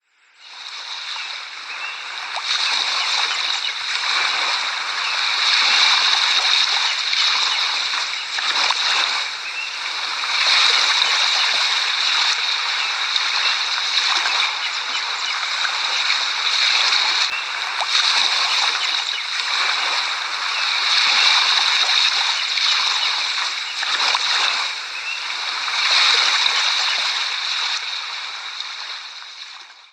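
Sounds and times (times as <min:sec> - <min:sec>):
waves breaking and washing: 0:00.4 - 0:29.9.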